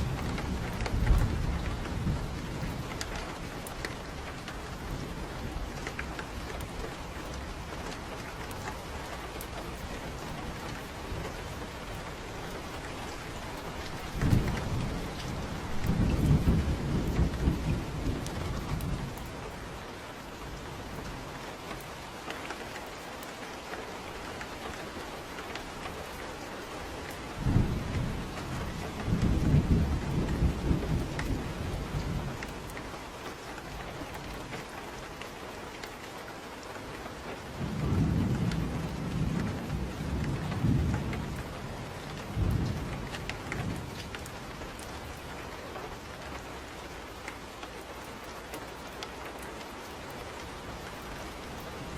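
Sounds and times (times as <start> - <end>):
thunder cracking and rumbling: 0.0 - 22.8, 24.4 - 34.8, 37.4 - 47.3, 49.3 - 51.9
steady rain: 0.0 - 51.9.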